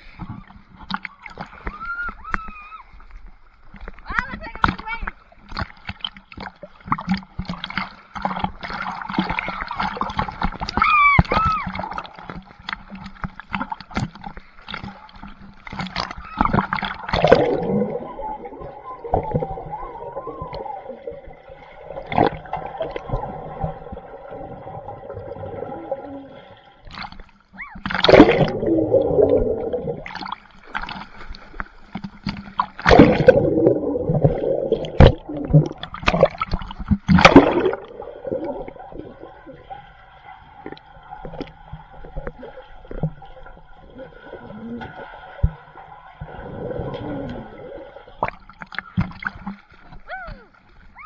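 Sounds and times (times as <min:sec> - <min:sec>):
pool water splashing: 0:00.0 - 0:51.0.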